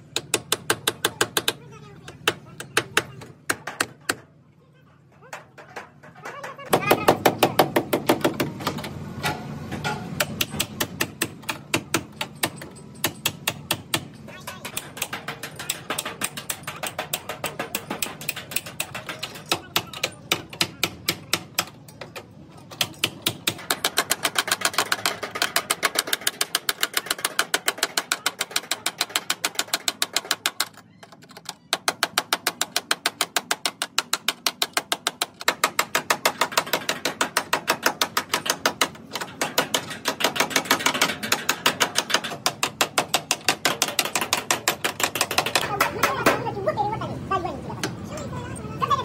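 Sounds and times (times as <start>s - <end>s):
hammer tapping sheet metal: 5.3s - 30.8s, 31.5s - 46.5s.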